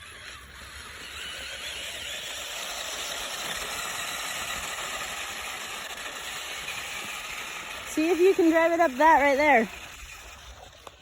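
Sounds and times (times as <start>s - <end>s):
toy car motor whirring: 0.0s - 11.0s.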